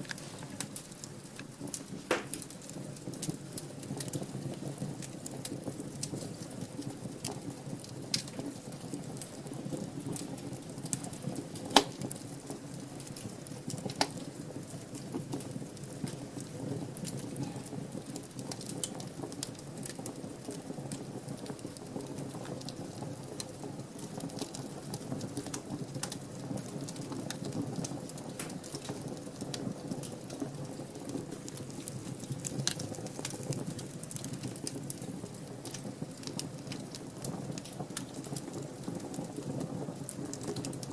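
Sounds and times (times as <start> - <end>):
low rumble of burning: 0.0 - 40.9
wood fire crackling: 0.0 - 40.9.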